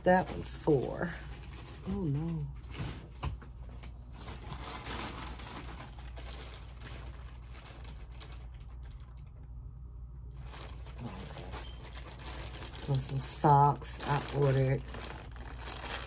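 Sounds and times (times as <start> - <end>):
plastic packaging rustling: 0.0 - 9.5, 10.3 - 16.0
low steady hum: 0.0 - 16.0.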